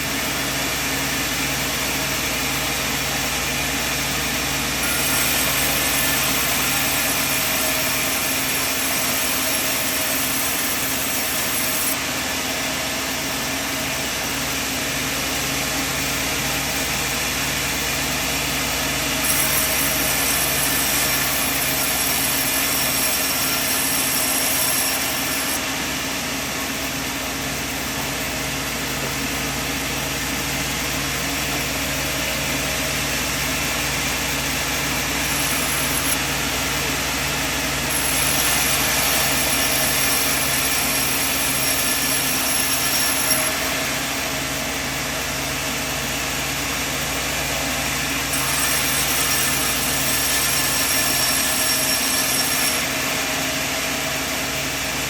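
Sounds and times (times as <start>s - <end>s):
sawmill machine running: 0.0s - 55.0s.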